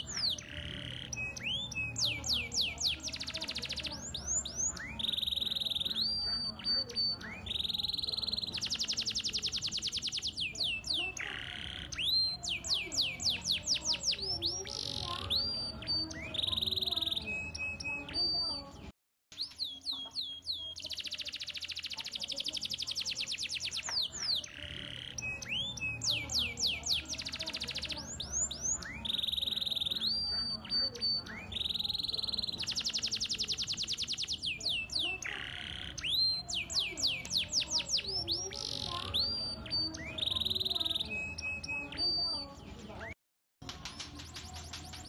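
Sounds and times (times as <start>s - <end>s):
canary singing trills: 0.0s - 45.0s.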